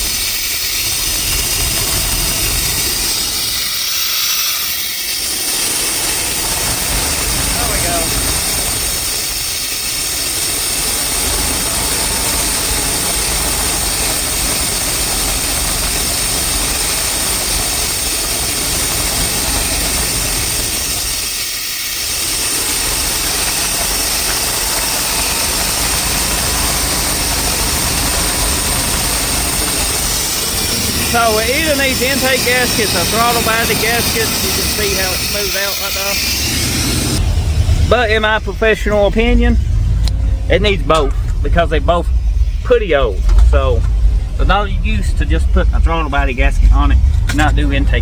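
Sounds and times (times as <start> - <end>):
truck engine idling roughly: 0.0 - 48.0.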